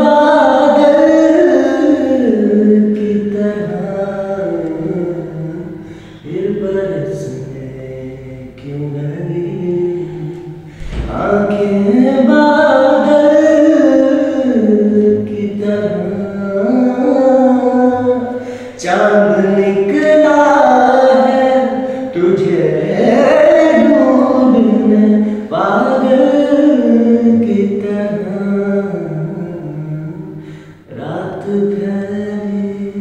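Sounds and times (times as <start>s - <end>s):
man singing unaccompanied: 0.0s - 33.0s.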